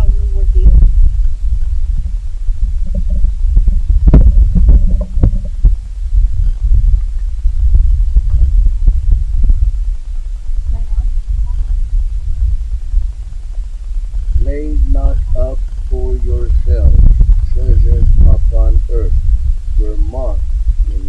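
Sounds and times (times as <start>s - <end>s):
low rumble on microphone: 0.0s - 21.0s.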